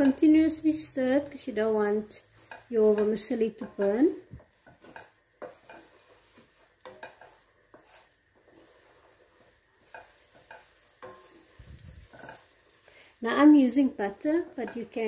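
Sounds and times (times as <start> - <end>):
faint sizzle: 0.0 - 15.0
wooden spoon scraping pot: 0.0 - 15.0.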